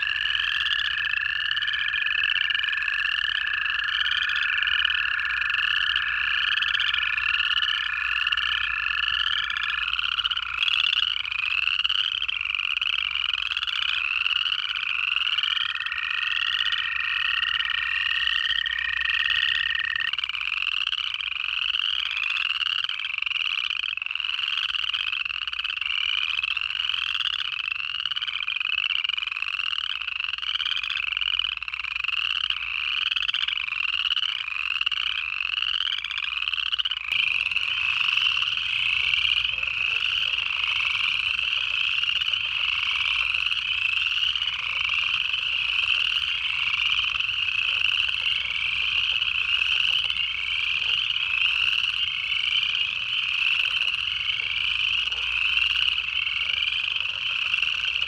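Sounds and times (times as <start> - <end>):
frogs trilling: 0.0 - 58.0.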